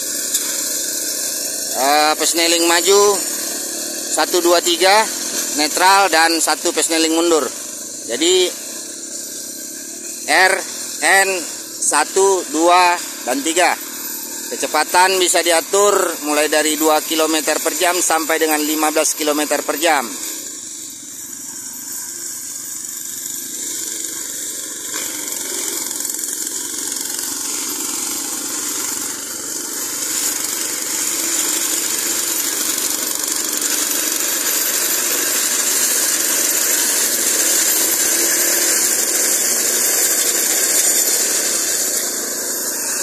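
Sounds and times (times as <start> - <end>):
machine cutting through brush: 0.0 - 43.0
small engines running: 0.0 - 43.0.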